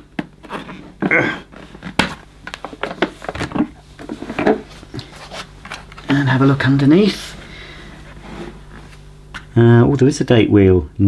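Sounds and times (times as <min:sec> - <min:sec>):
handling noise: 0:00.0 - 0:09.6.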